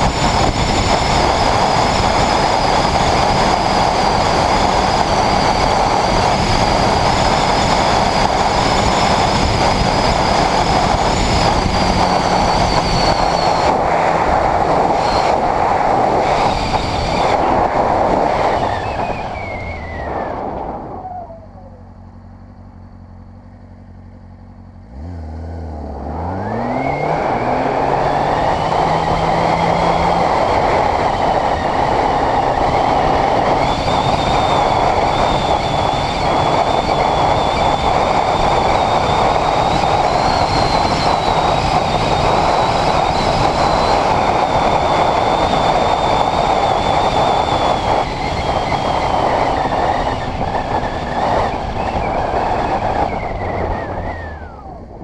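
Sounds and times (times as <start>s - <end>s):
motorcycle engine idling and revving: 0.0s - 55.0s
wind and road noise: 0.0s - 55.0s.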